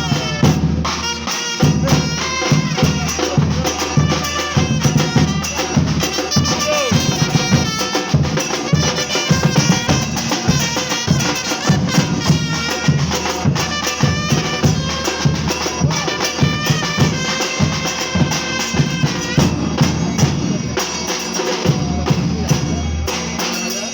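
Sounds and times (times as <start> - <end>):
bass drums beating: 0.0 - 23.6
snares and hand percussion: 0.0 - 23.9.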